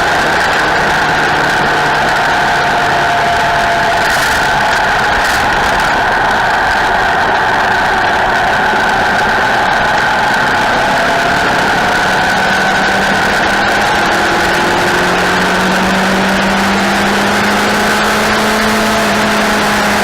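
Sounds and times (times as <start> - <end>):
lower engine note: 0.0 - 20.0
motorcycle engines running loud: 0.0 - 20.0.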